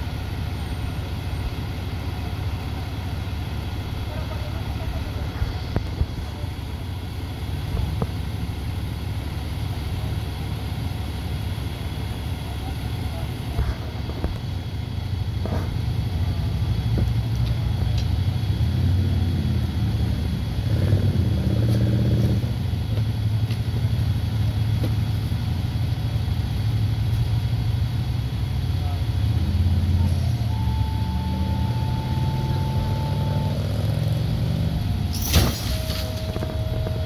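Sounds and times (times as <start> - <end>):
truck engine idling: 0.0 - 20.7, 22.0 - 37.0.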